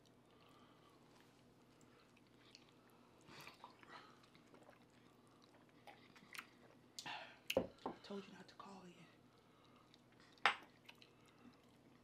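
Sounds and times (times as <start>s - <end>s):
faint chewing noises: 0.0s - 8.2s, 9.2s - 12.0s.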